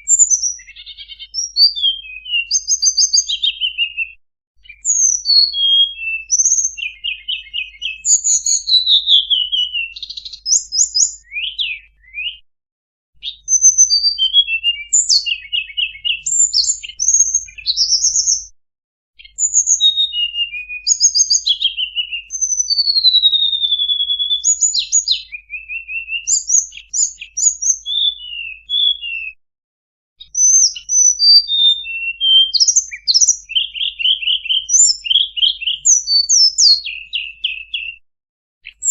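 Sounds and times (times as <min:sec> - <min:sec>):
bird call of chirps and trills: 0:00.0 - 0:12.4, 0:13.2 - 0:18.5, 0:19.2 - 0:29.3, 0:30.2 - 0:38.0.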